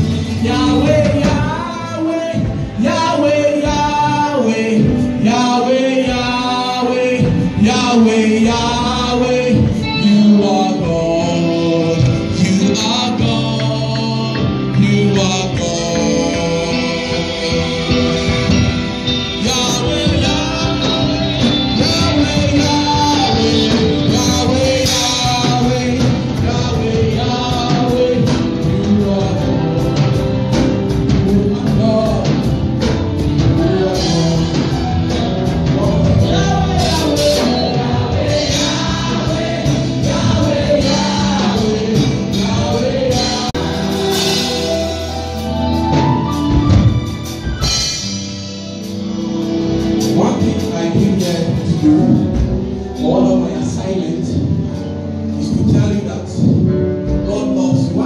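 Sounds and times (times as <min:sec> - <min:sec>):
congregation singing: 0:00.0 - 0:58.0
gospel band playing: 0:00.0 - 0:58.0.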